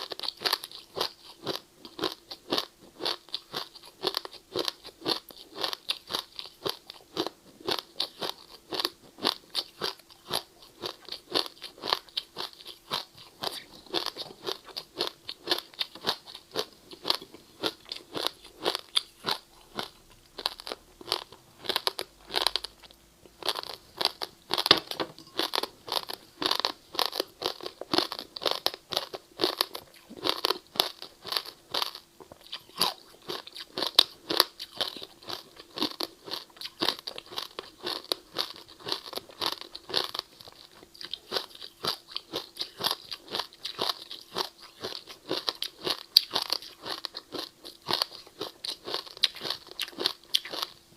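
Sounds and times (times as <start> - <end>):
ice crunching while chewed: 0.0 - 50.8.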